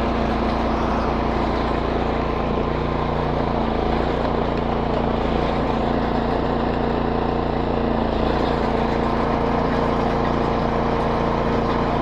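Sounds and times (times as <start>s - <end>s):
snow blower engine running: 0.0s - 12.0s.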